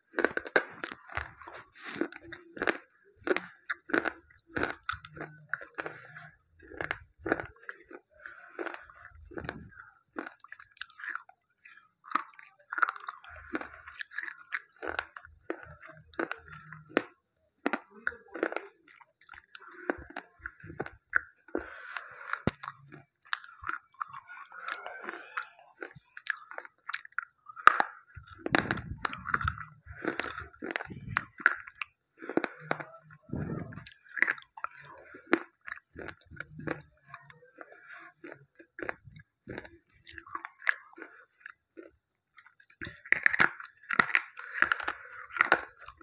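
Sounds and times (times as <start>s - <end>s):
pencil crunching being chewed: 0.0s - 46.0s.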